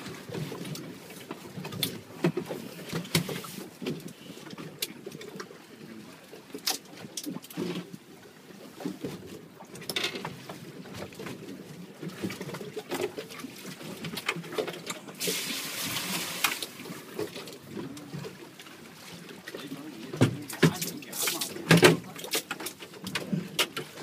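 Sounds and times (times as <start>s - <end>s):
water lapping against boat hull: 0.0s - 24.0s.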